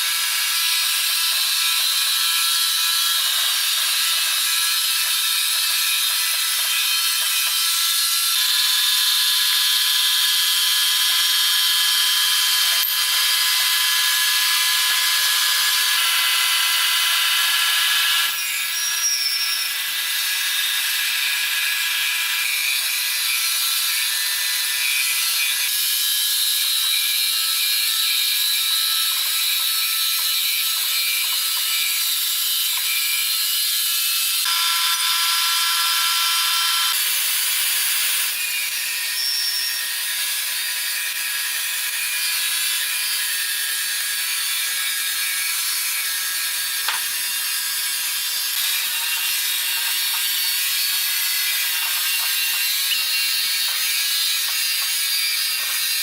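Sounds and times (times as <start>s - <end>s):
sawmill machinery rattle and whine: 0.0s - 56.0s.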